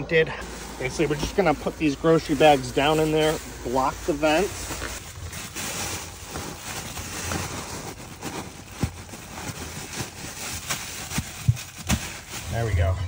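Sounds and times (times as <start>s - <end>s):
furnace running: 0.0s - 11.2s
plastic bags crinkling: 0.4s - 12.9s.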